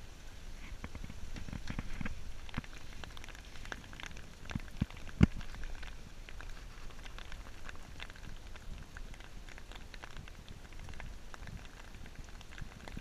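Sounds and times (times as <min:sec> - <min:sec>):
rain falling: 0:00.0 - 0:13.0
hailstones ticking on wooden deck: 0:00.7 - 0:13.0.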